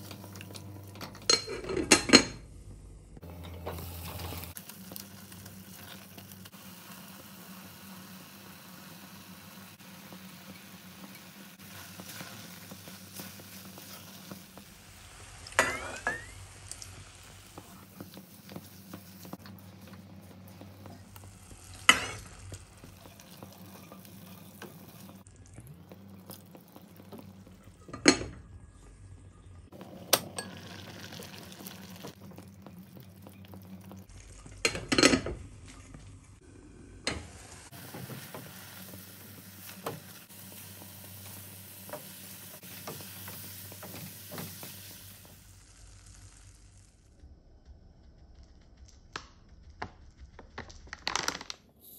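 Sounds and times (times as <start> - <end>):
soft sizzling hiss: 2.7 - 27.9, 28.6 - 50.3.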